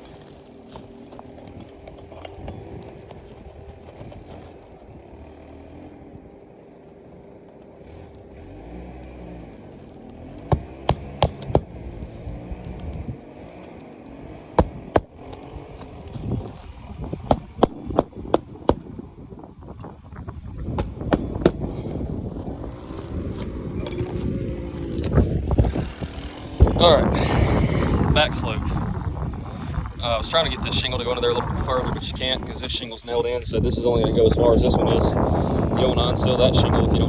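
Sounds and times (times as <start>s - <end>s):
low rumble of traffic: 0.0s - 37.0s.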